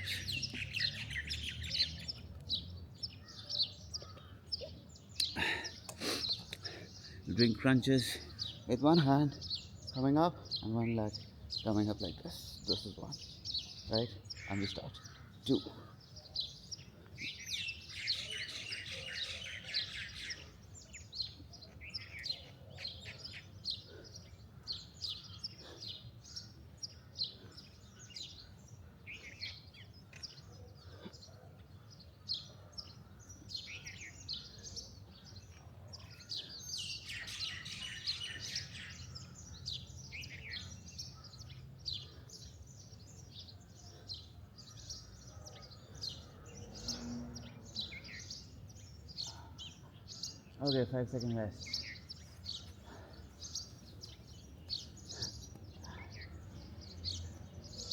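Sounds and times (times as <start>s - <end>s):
birds chirping and singing: 0.0s - 57.9s.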